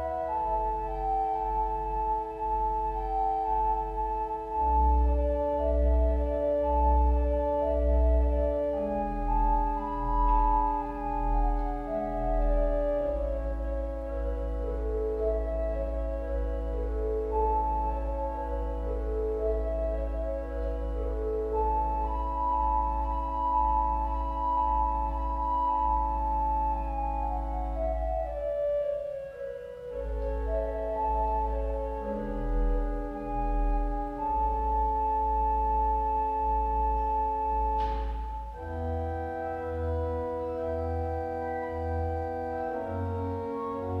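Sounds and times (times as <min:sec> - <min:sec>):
church organ playing: 0:00.0 - 0:44.0
deep organ pedal bass: 0:00.0 - 0:44.0.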